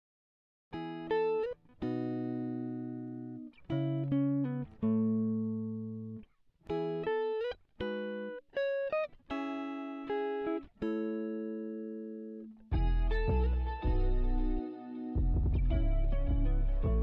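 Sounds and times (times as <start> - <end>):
plucked guitar music: 0.7 - 17.0.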